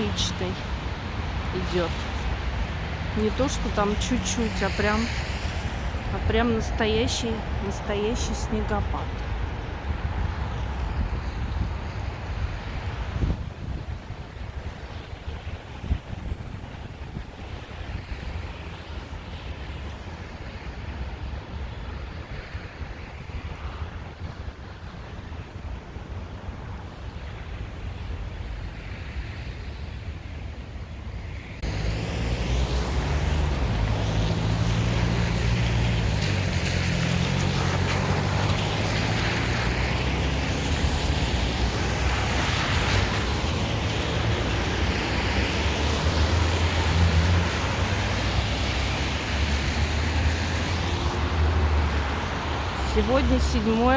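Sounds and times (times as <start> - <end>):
wind blowing on microphone: 0.0 - 53.9.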